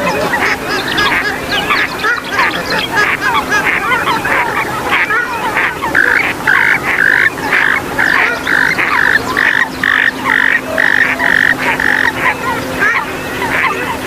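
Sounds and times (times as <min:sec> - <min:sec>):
swamphen and moorhen calls: 0:00.0 - 0:14.0.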